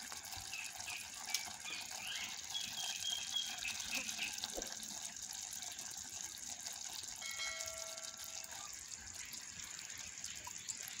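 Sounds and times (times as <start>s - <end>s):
liquid simmering with bubbling: 0.0s - 11.0s.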